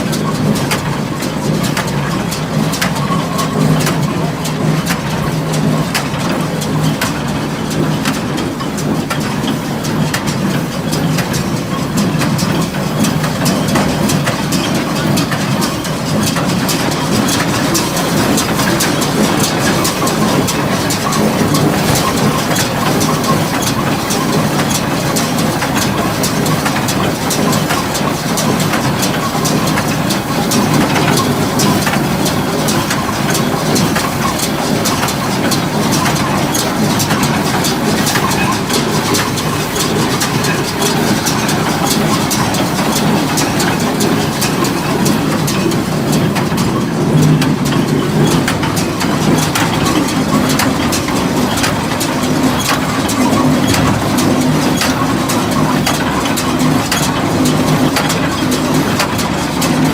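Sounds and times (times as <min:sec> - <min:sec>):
baler clicking and clattering: 0:00.0 - 0:59.9
tractor engine running: 0:00.0 - 0:59.9.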